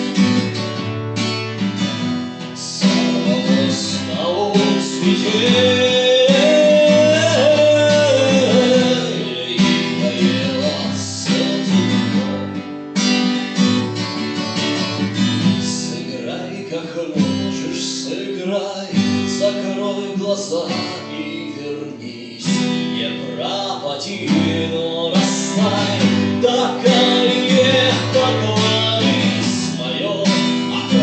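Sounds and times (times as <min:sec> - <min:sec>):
strummed acoustic guitar: 0:00.0 - 0:31.0.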